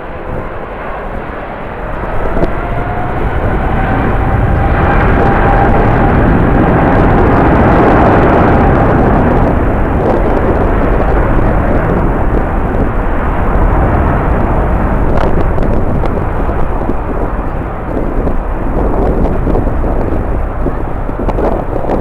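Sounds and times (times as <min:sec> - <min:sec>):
jet engine rumble: 0:00.0 - 0:22.0
wind buffeting microphone: 0:00.0 - 0:22.0.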